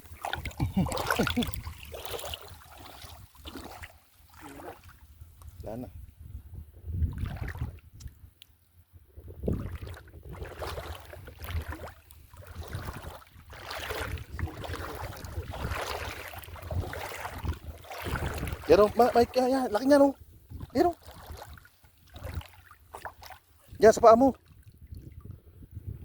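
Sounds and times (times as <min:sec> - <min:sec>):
wind buffeting microphone: 0:00.0 - 0:03.5, 0:05.2 - 0:08.3, 0:09.0 - 0:22.5, 0:23.7 - 0:26.0
seawater sloshing and splashing: 0:00.0 - 0:05.8, 0:07.0 - 0:08.0, 0:09.4 - 0:25.4.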